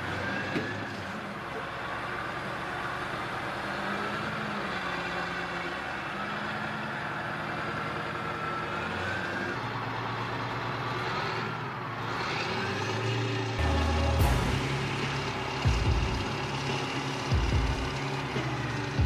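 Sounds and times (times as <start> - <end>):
heavy vehicle engine whining: 0.0 - 19.0.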